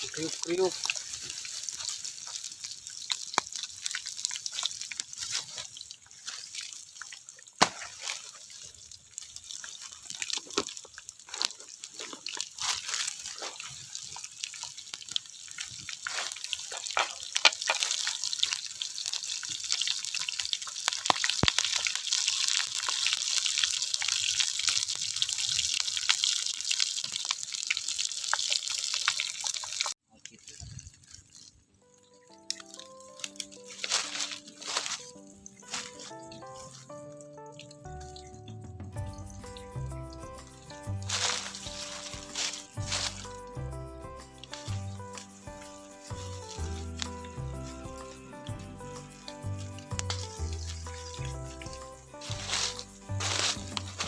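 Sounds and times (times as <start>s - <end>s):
deep-frying in hot oil: 0.0s - 54.0s.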